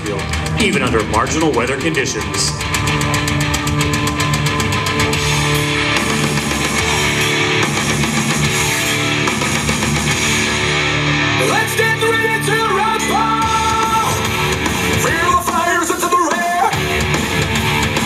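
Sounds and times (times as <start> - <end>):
heavy rock music: 0.0 - 18.0
rapid drum beat: 0.0 - 18.0.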